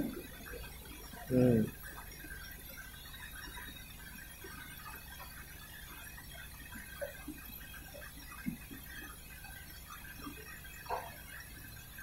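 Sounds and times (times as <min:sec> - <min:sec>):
washing machine low hum: 0:00.0 - 0:12.0.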